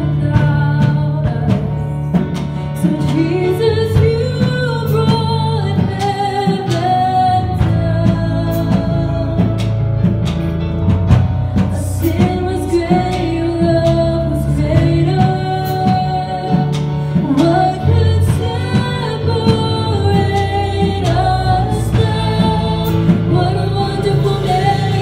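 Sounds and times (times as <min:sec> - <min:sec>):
woman singing: 0:00.0 - 0:09.9, 0:11.6 - 0:25.0
drum kit beat: 0:00.0 - 0:25.0
electric keyboard: 0:00.0 - 0:25.0.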